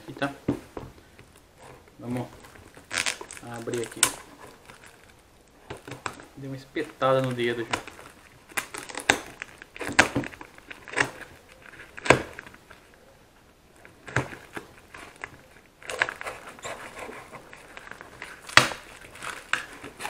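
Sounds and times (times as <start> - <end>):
plastic rustling and crinkling: 0.0 - 20.0
sharp rips and snaps: 1.3 - 13.1, 13.8 - 20.0
knife cutting plastic envelope: 1.6 - 13.0, 13.8 - 20.0.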